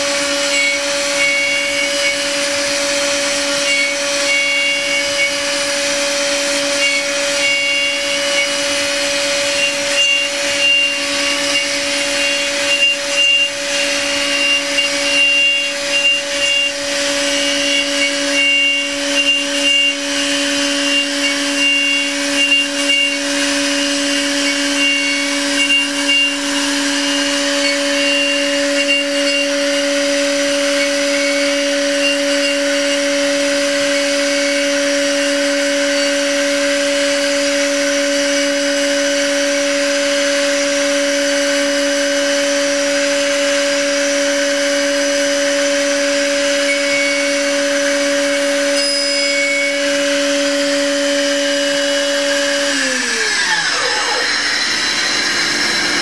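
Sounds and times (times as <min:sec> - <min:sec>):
milling machine spindle whine: 0:00.0 - 0:56.0
rasping wood cutting: 0:00.0 - 0:56.0.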